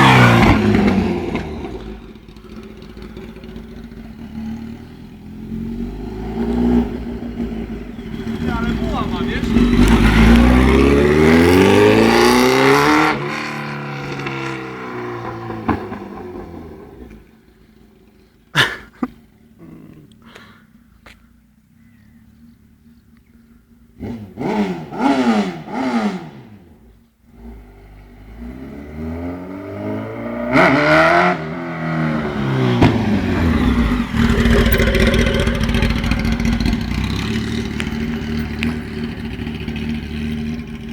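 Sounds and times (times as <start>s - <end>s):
motorcycle engine revving: 0.0s - 18.1s, 23.7s - 40.9s.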